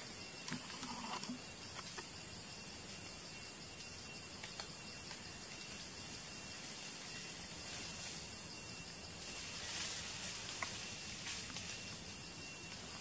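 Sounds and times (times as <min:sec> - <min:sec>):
forest insect chorus drone: 0:00.0 - 0:13.0.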